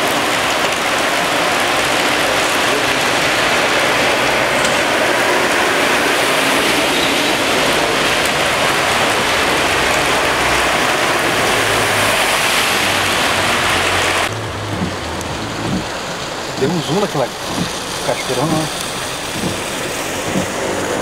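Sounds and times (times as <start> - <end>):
car driving through floodwater: 0.0 - 21.0
heavy rain on flooded street: 0.0 - 21.0.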